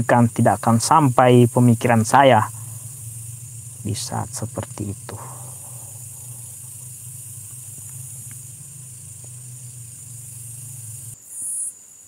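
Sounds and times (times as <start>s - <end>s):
low hum: 0.0s - 11.2s
night insects hissing: 0.0s - 12.0s.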